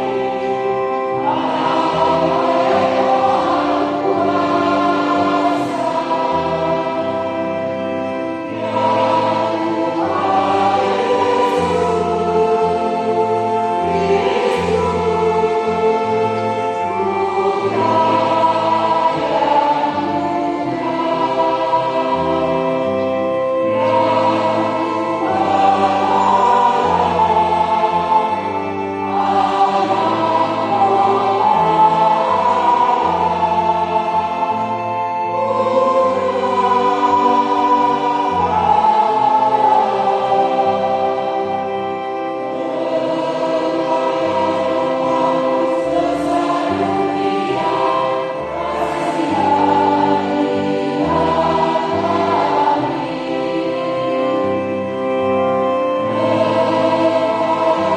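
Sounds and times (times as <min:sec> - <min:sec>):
mixed choir singing a hymn: 0:00.0 - 0:57.9.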